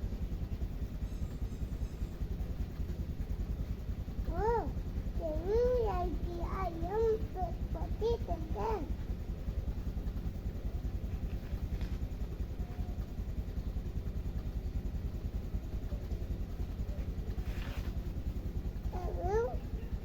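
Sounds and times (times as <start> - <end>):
engine running with low pulsing: 0.0 - 20.0.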